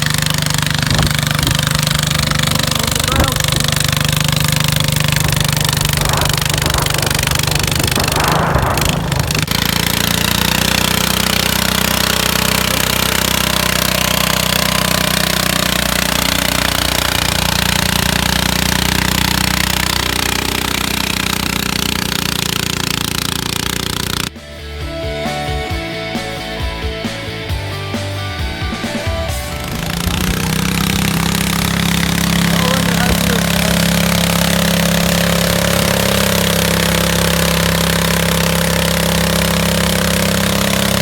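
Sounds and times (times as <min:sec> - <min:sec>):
garden tractor engine running hard: 0:00.0 - 0:41.0.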